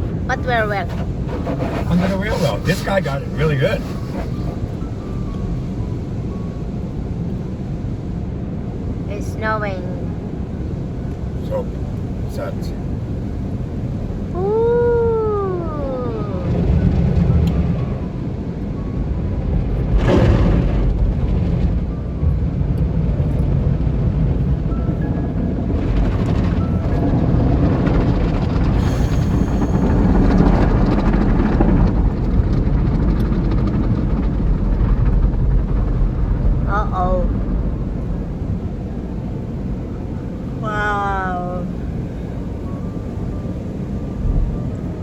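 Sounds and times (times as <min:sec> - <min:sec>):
car wash equipment rumbling: 0:00.0 - 0:45.0.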